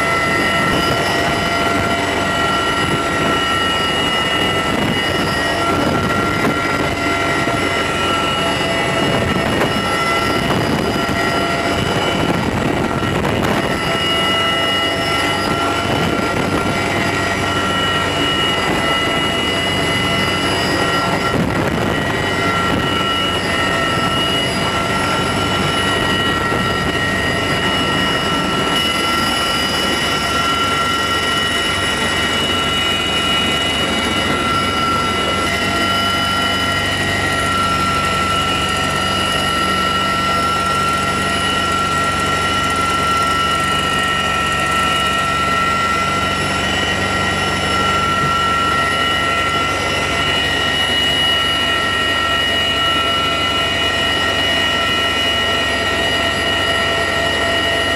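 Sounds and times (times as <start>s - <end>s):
helicopter rotors and engines rumbling: 0.0s - 57.9s
high-pitched whining tones: 0.0s - 57.9s.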